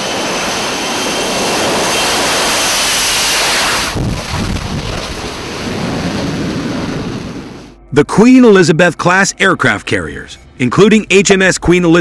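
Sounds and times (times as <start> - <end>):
jet engine roaring with whine: 0.0 - 12.0.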